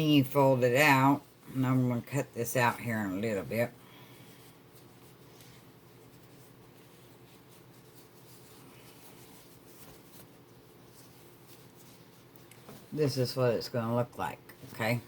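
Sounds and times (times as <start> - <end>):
denim rustling and rubbing: 0.0 - 15.0
low steady hum: 0.0 - 15.0.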